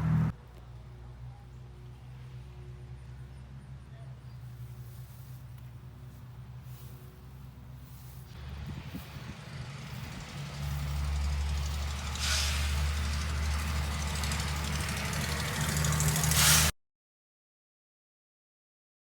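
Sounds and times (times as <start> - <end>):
road noise: 0.0 - 16.7
vehicle engine running: 0.0 - 16.7.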